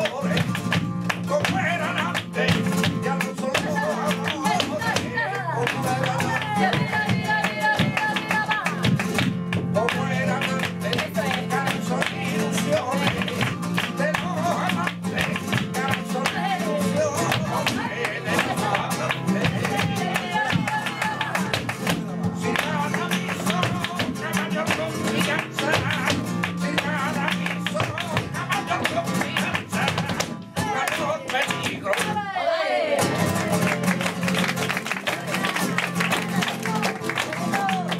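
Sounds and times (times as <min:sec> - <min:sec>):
man singing: 0:00.0 - 0:08.8, 0:09.6 - 0:32.3, 0:35.1 - 0:37.9
flamenco guitar strumming: 0:00.0 - 0:32.4, 0:33.0 - 0:37.9.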